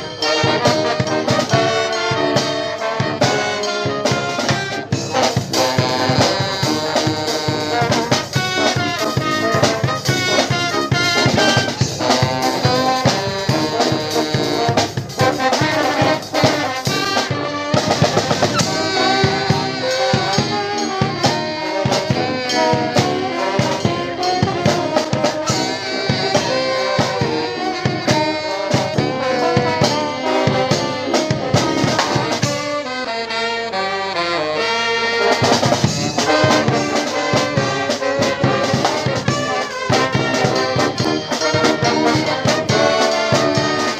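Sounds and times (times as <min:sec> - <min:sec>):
drum kit beat: 0:00.0 - 0:32.9, 0:34.8 - 0:43.9
brass band playing: 0:00.0 - 0:43.9.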